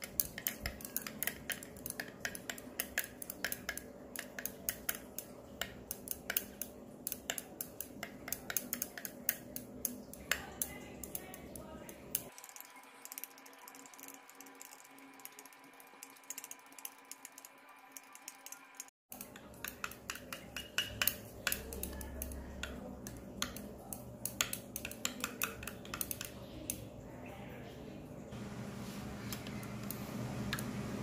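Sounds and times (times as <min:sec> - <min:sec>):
stirring rod clinking in glass beaker: 0:00.0 - 0:26.4.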